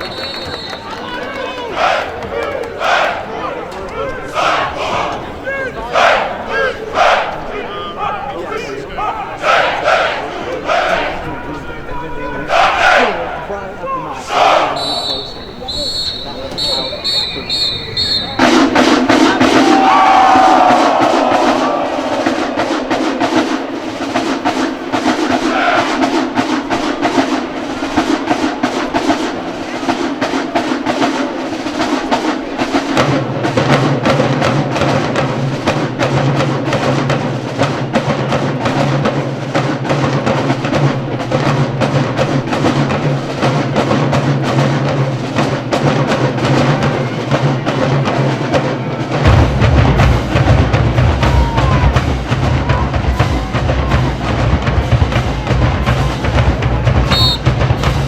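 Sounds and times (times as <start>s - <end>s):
rapid drumline strokes: 0.0s - 58.0s
sustained low brass part: 1.7s - 37.8s, 38.7s - 58.0s.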